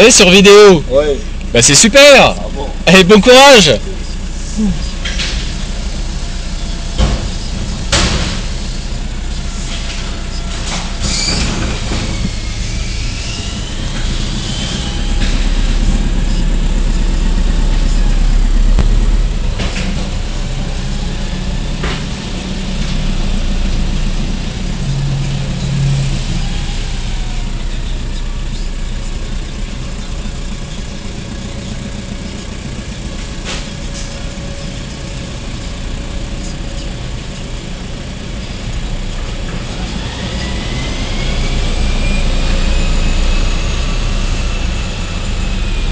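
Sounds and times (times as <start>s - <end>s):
garbage truck engine drone: 0.0s - 45.9s.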